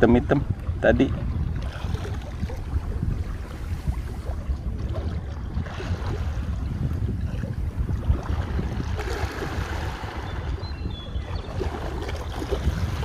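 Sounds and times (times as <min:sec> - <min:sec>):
wind buffeting microphone: 0:00.0 - 0:13.0
sea water washing: 0:00.4 - 0:10.6, 0:11.2 - 0:13.0.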